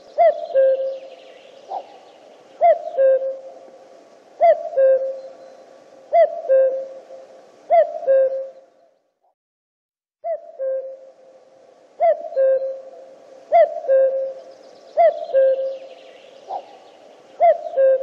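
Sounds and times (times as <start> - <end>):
cuckoo calling: 0.0 - 3.8, 4.4 - 8.9, 10.2 - 11.3, 12.0 - 18.0.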